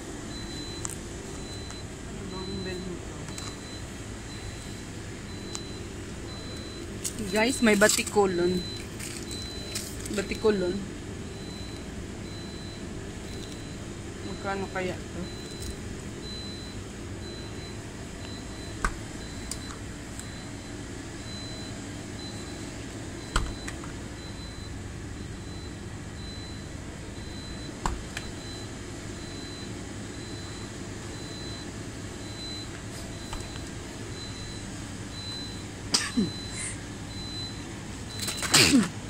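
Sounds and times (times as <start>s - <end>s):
freezer hum: 0.0s - 39.0s.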